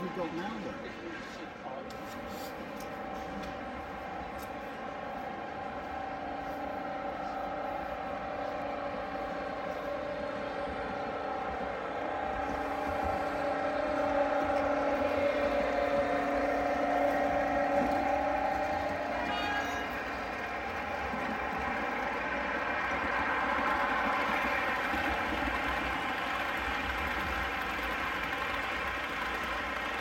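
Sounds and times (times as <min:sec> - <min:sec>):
model trains droning: 0:00.0 - 0:30.0.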